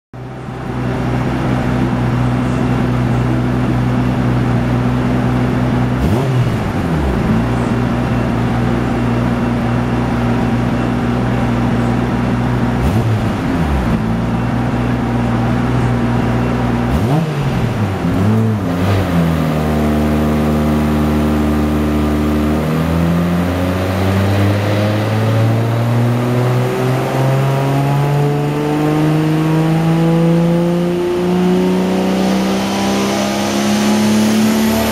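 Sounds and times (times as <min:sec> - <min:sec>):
car engine revving on a dyno: 0:00.6 - 0:10.8, 0:12.4 - 0:15.3, 0:16.5 - 0:34.9.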